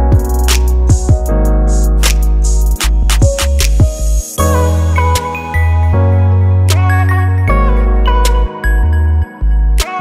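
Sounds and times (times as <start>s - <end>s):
deep bass line: 0.0s - 9.8s.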